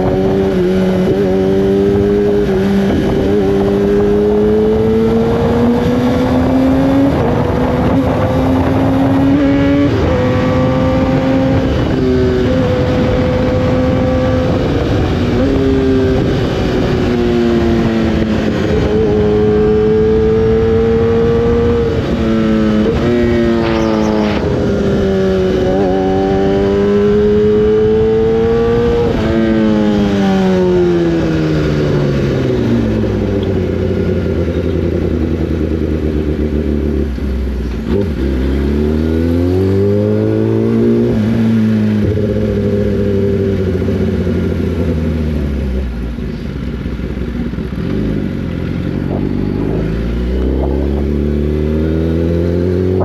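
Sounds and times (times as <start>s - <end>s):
motorcycle engine shifting gears: 0.0s - 53.0s.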